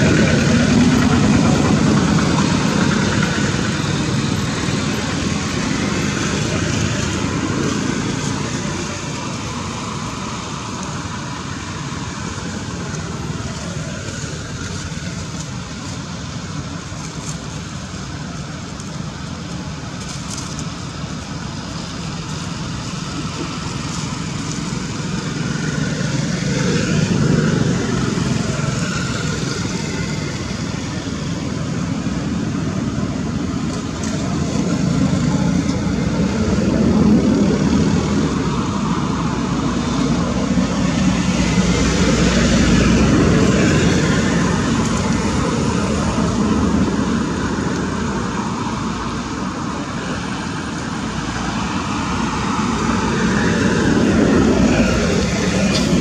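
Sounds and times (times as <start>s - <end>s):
traffic rumble: 0.0s - 56.0s
vehicles passing: 0.0s - 56.0s.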